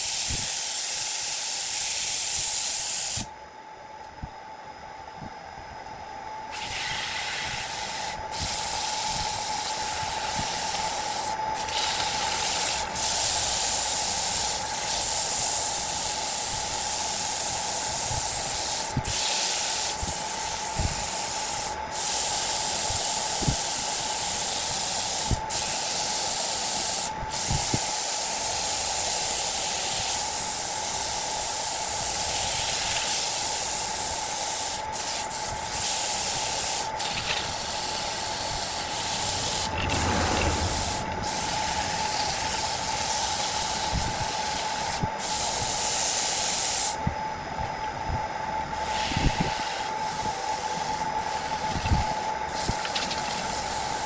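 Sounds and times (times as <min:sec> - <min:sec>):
hiss of spinning workpiece: 0:00.0 - 0:03.3, 0:06.5 - 0:47.0, 0:48.7 - 0:54.0.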